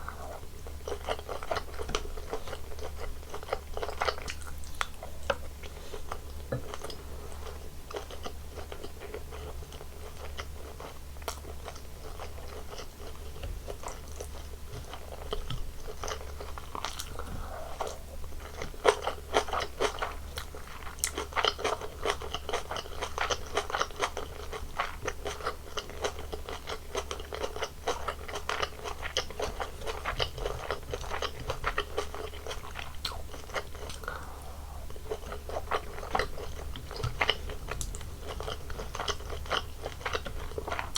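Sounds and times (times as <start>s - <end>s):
crunchy chewing: 0.0s - 40.9s.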